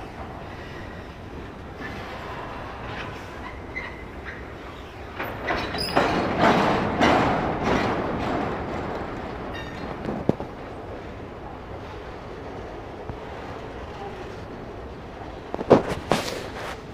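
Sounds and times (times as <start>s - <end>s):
train wheels clattering on rails: 0.0s - 16.9s.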